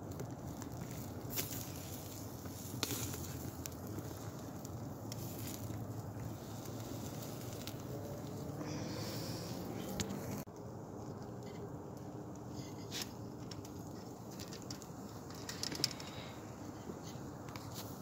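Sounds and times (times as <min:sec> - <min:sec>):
fire crackling and popping: 0:00.0 - 0:18.0
wood fire burning: 0:00.0 - 0:18.0.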